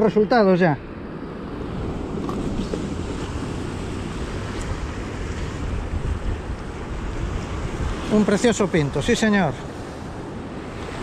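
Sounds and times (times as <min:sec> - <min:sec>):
wind buffeting microphone: 0:01.2 - 0:11.0.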